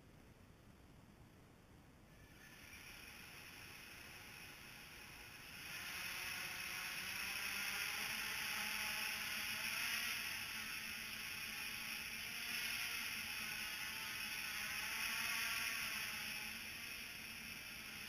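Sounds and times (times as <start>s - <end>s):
quadcopter propellers whirring: 2.1s - 18.0s.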